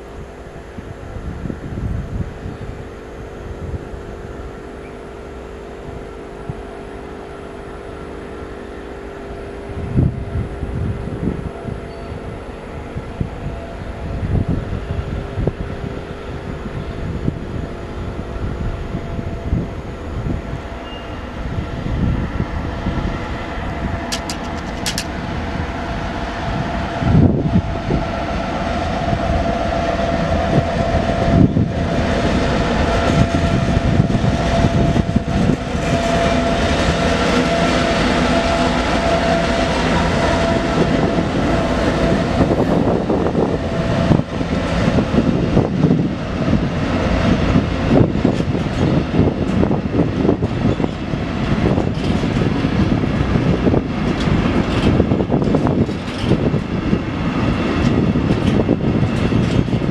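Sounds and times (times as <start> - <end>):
diesel locomotive engine drone: 0.0 - 59.9
wheels rumbling on rails: 0.0 - 59.9.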